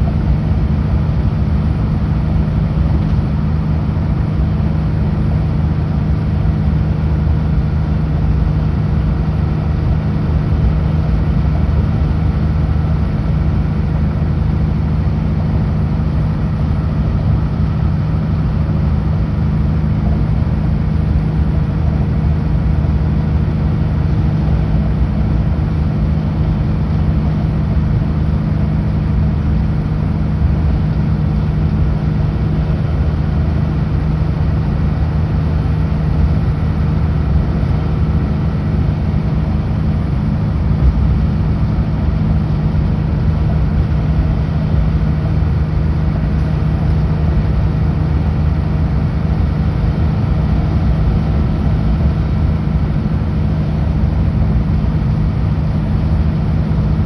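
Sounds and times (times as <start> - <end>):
diesel truck engine droning: 0.0 - 57.0
road noise rumble: 0.0 - 57.0.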